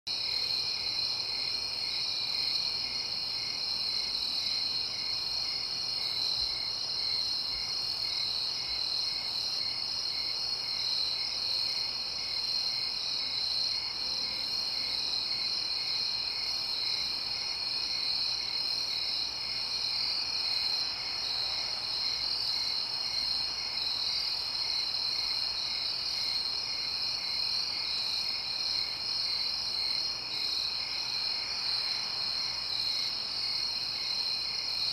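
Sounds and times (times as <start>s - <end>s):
low pulsing insect call: 0.1s - 34.9s.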